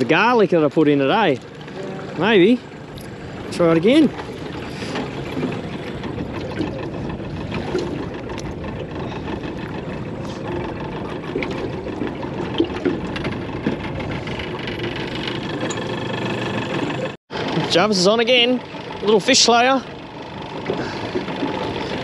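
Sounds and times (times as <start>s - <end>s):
outboard motor running: 0.0s - 22.0s
water noise: 0.0s - 22.0s.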